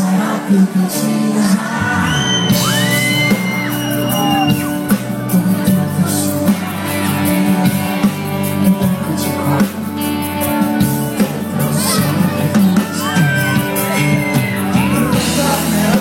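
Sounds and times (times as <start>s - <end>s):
pop band playing: 0.0s - 16.0s.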